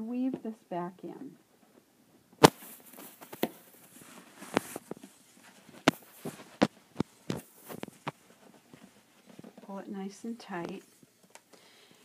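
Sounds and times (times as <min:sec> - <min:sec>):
light rustling of weaving strips: 0:01.2 - 0:12.0.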